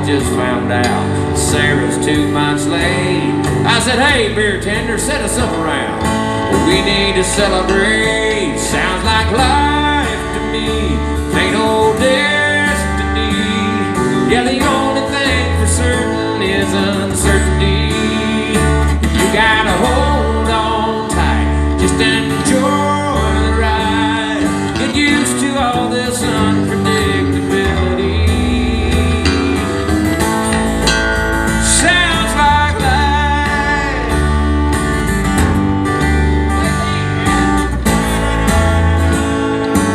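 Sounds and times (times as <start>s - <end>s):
lead guitar bending notes: 0.0s - 39.9s
live country band playing: 0.0s - 39.9s.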